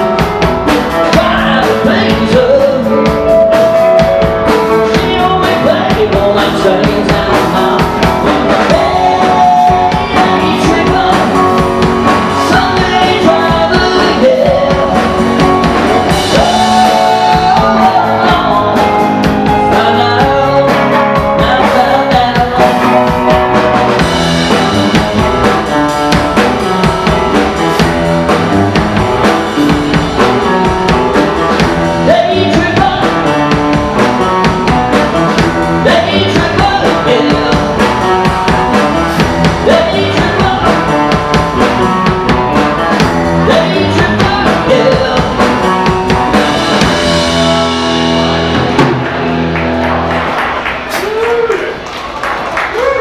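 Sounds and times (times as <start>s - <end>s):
live rock band with singer: 0.0s - 51.8s.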